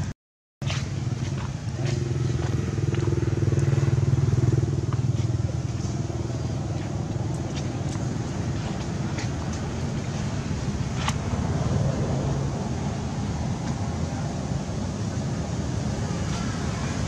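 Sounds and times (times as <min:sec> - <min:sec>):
vehicle engine running: 0:00.6 - 0:17.0.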